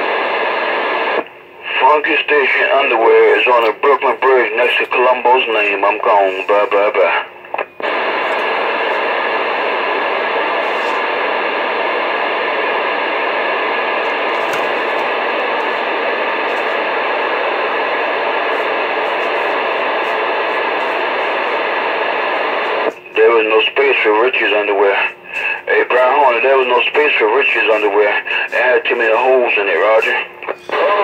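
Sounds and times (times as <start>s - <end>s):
radio receiver hiss: 0.0s - 31.0s
static crackles: 0.0s - 31.0s.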